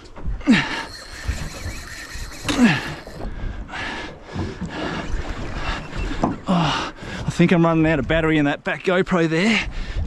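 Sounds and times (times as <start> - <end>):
water noise: 0.0 - 8.5
wind: 0.0 - 10.0.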